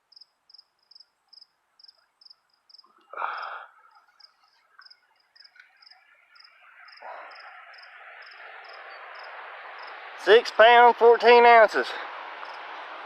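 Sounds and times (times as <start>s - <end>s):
insects chirping: 0.0s - 10.2s, 12.4s - 12.8s.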